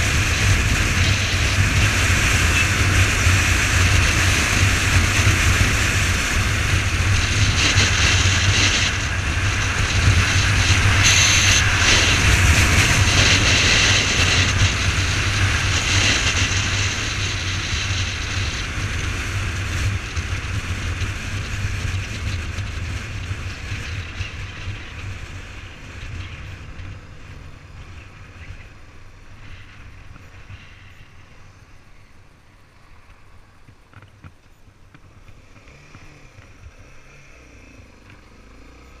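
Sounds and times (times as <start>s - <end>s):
wind noise: 0.0s - 32.5s
motorcycle engine: 0.0s - 39.0s.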